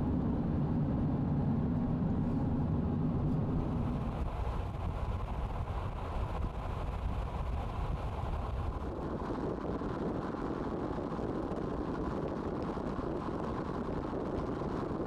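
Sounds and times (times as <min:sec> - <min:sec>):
car road noise and rumble: 0:00.0 - 0:15.0.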